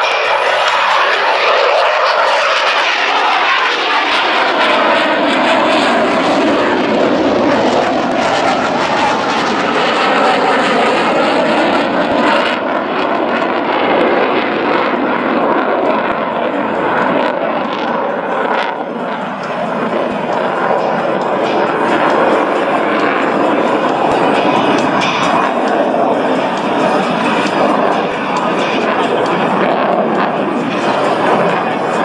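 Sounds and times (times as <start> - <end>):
jet fighter flying past: 0.0 - 32.0.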